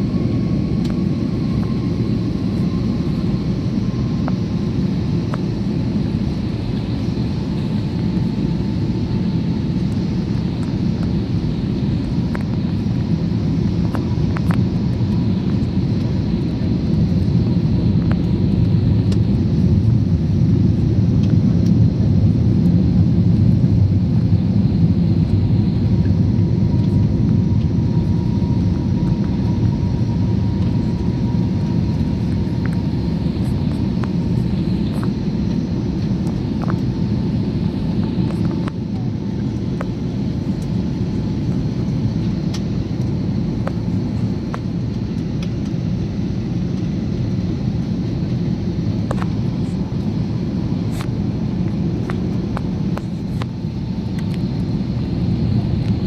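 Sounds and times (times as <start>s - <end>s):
faint thin whine: 0.0s - 56.0s
low rumble of engines and airflow: 0.0s - 56.0s.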